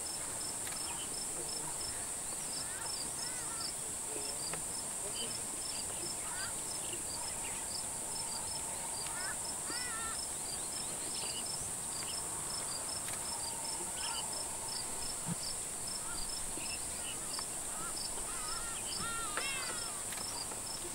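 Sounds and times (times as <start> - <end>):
bird calls: 0.0 - 20.9
cricket chirps: 0.0 - 20.9
high insect drone: 0.0 - 20.9.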